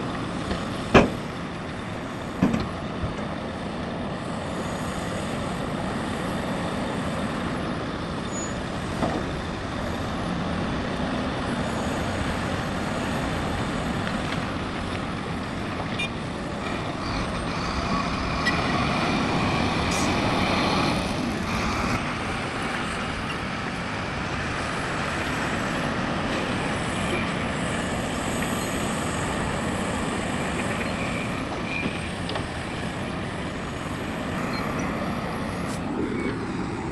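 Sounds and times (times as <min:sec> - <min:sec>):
heavy diesel machinery running: 0:00.0 - 0:36.9.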